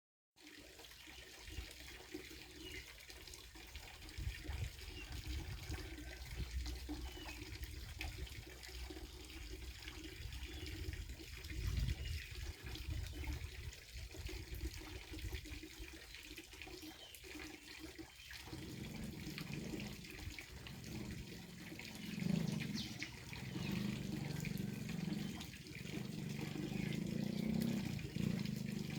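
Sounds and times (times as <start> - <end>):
water running and splashing: 0.4 - 28.9.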